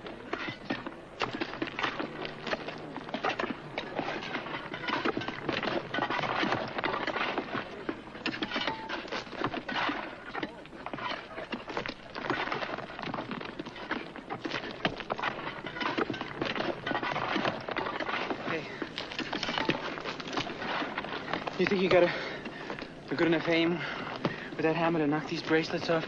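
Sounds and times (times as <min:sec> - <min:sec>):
pickaxes striking rock: 0:00.0 - 0:26.0
stones clattering: 0:00.2 - 0:26.0.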